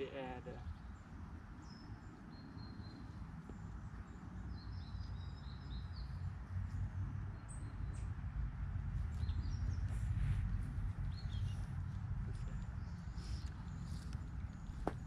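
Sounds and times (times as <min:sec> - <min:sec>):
small birds chirping: 0:00.0 - 0:08.3, 0:08.9 - 0:15.0.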